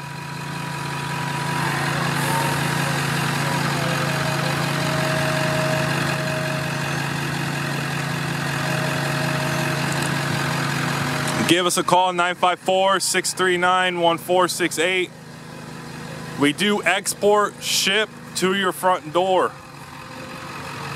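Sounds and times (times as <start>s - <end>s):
engine idling: 0.0s - 20.9s.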